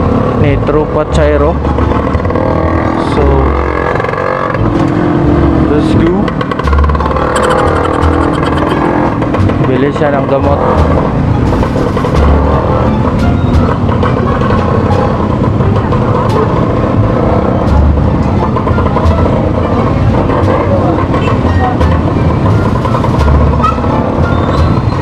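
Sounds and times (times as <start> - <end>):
motorcycle engines running: 0.0 - 25.0
street traffic noise: 0.0 - 25.0.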